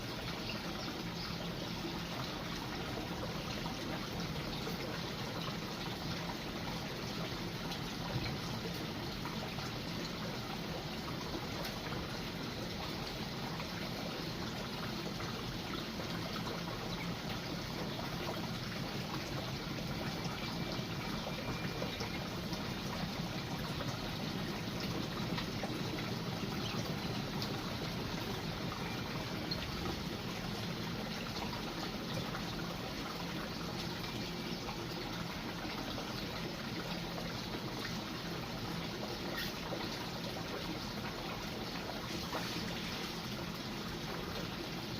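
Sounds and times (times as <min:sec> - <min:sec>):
trickle of running water: 0:00.0 - 0:44.9.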